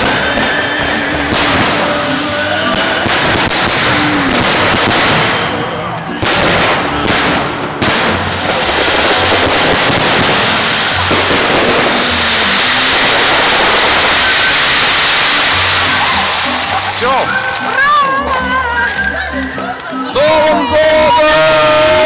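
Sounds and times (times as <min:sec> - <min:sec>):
fireworks bangs: 0:00.0 - 0:18.0
fireworks crackling: 0:00.0 - 0:22.0.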